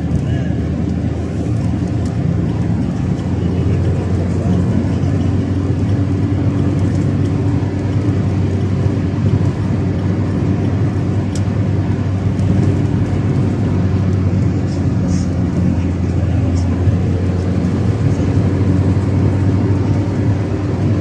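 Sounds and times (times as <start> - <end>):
car cabin engine and tyre drone: 0.0 - 21.0.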